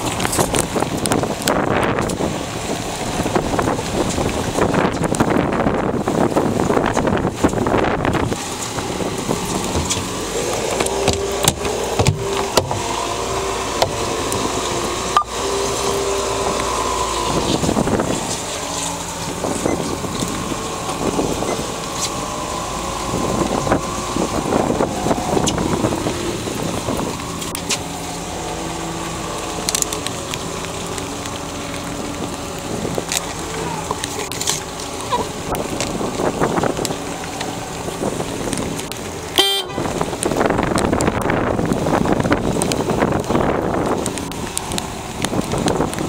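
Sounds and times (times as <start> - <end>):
boat engine idling: 0.0 - 46.0.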